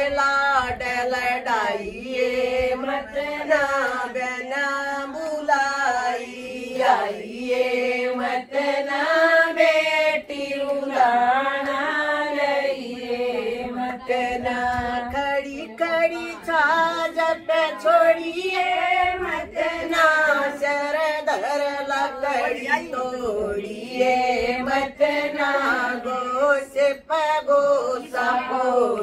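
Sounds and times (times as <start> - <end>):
women singing unaccompanied: 0.0 - 29.0.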